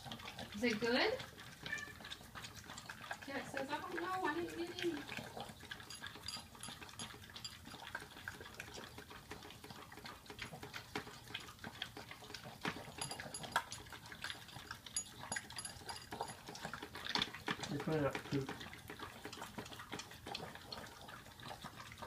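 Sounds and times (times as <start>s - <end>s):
dogs lapping from bowls: 0.0s - 22.0s.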